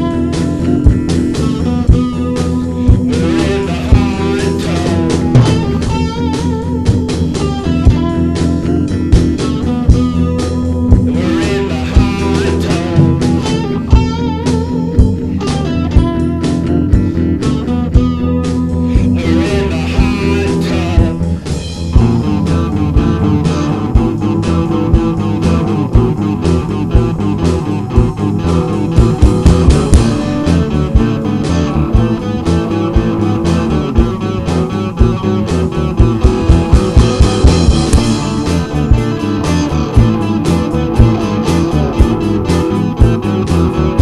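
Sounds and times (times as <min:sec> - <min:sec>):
rock song with electric guitar: 0:00.0 - 0:44.0.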